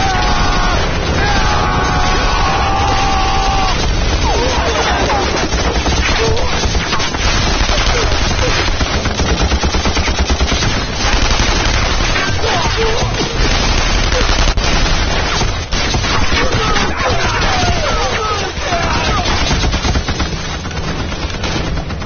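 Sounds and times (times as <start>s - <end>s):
automatic weapons fire: 0.0s - 22.0s
rifle shots: 0.0s - 22.0s.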